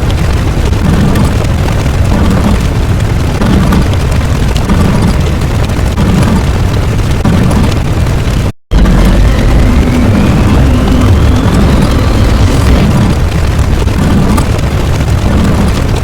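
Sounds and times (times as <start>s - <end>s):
explosion booms and rumble: 0.0s - 16.0s.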